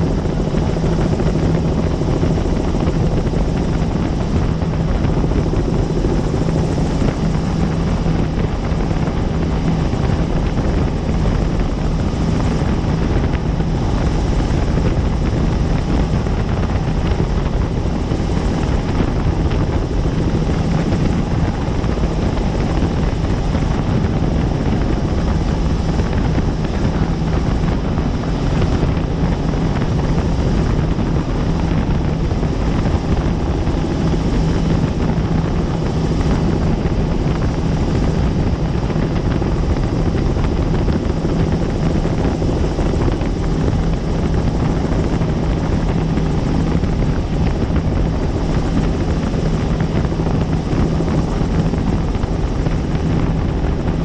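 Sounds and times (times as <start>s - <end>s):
helicopter rotor and turbine drone: 0.0s - 54.0s.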